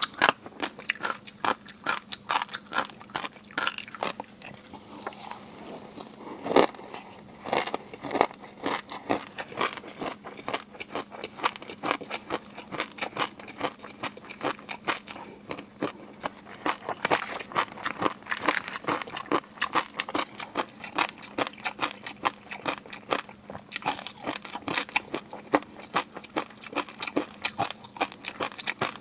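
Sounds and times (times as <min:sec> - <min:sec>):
person chewing and crunching: 0:00.0 - 0:29.0.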